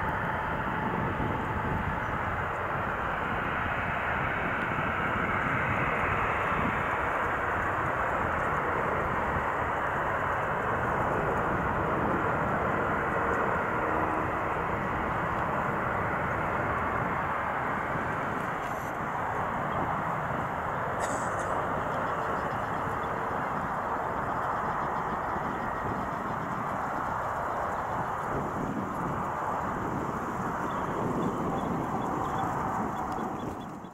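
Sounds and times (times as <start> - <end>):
jet engines of landing airliner: 0.0 - 33.9.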